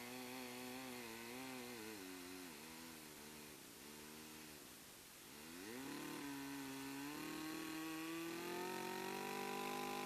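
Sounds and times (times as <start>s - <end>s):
chainsaw cutting log: 0.0s - 10.0s.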